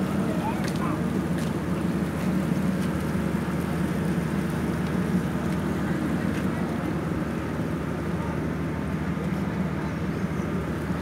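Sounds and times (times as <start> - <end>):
ferry engine drone: 0.0 - 11.0.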